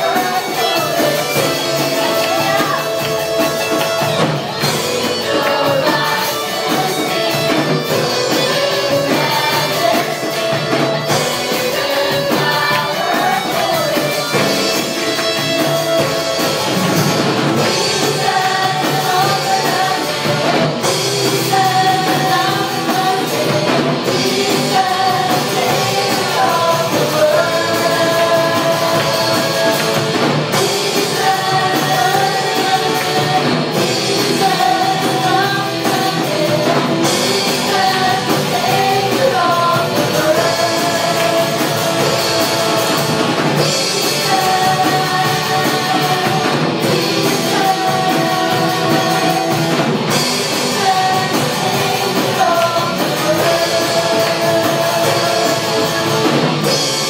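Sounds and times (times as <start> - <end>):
drum kit: 0.0 - 57.0
electric guitars: 0.0 - 57.0
keyboard: 0.0 - 57.0
live band playing: 0.0 - 57.0
women singing: 0.0 - 57.0.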